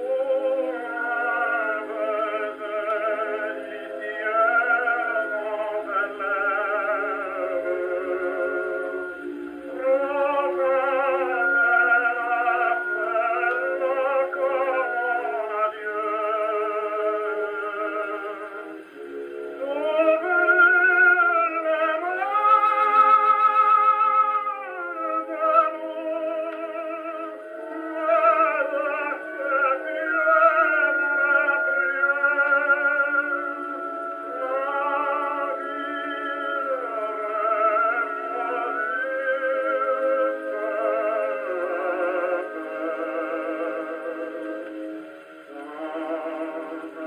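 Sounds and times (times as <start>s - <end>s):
gramophone record playing: 0.0s - 47.0s
tenor singing with vibrato: 0.0s - 47.0s.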